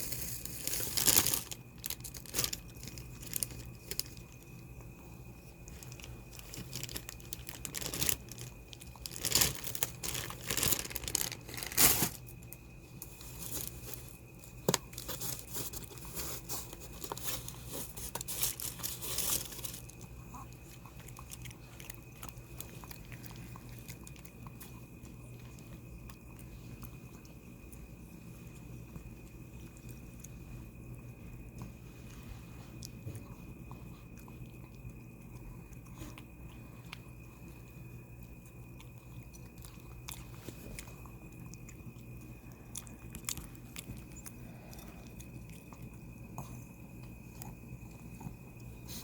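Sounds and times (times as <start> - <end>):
dog chewing and crunching: 0.0 - 12.4, 13.0 - 30.6, 31.4 - 49.0.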